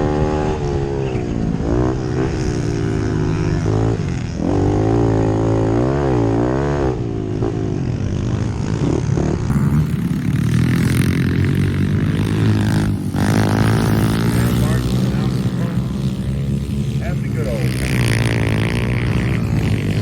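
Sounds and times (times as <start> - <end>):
pit bike engines revving: 0.0 - 20.0.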